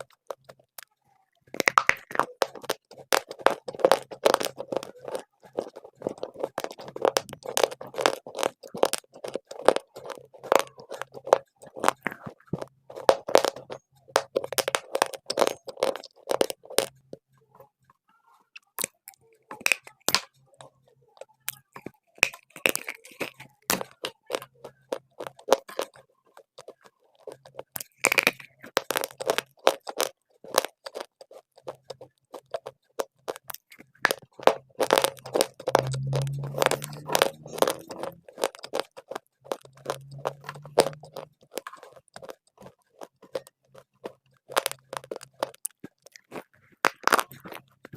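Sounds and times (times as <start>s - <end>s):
chewing crunchy clay: 0.0s - 17.2s, 18.6s - 20.4s, 21.2s - 47.9s.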